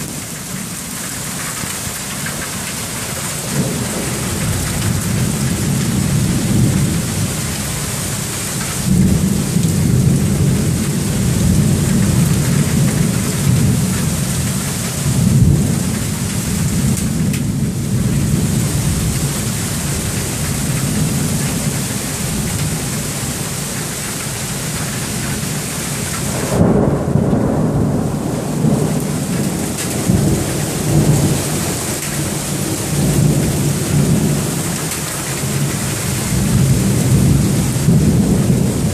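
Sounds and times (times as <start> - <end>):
heavy rain pouring: 0.0 - 38.9
low rumbles of thunder: 3.5 - 23.5, 24.7 - 38.9.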